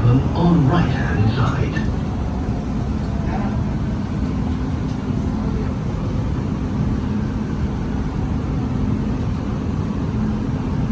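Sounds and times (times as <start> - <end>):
train rumble inside carriage: 0.0 - 10.9.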